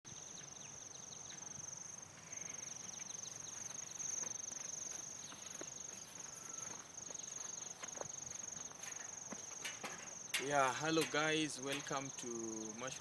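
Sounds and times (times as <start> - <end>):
insects trilling: 0.1 - 13.0.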